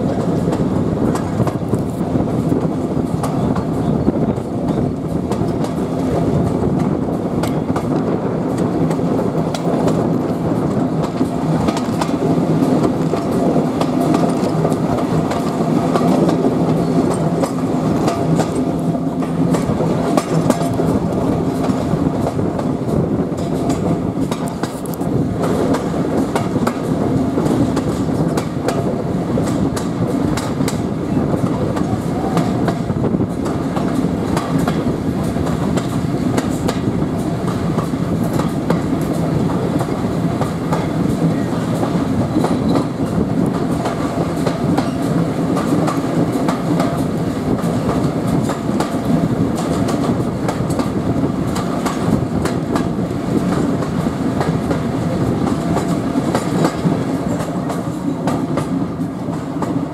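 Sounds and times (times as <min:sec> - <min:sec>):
train carriage rumble: 0:00.0 - 0:59.9
wheels clicking over rail joints: 0:00.0 - 0:59.9.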